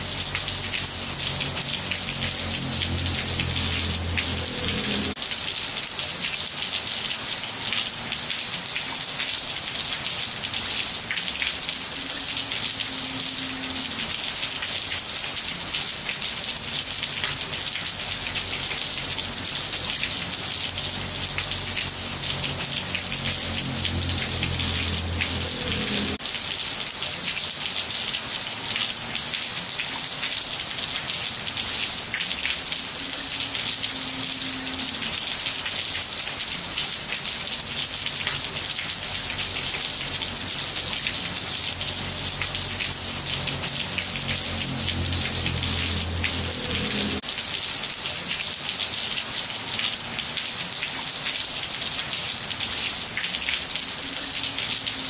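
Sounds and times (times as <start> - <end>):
rain on tiled floor: 0.0 - 55.0.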